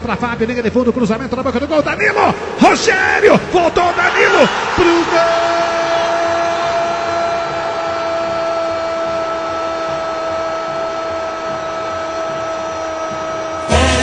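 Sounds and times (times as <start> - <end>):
stadium crowd cheering: 2.0 - 14.0.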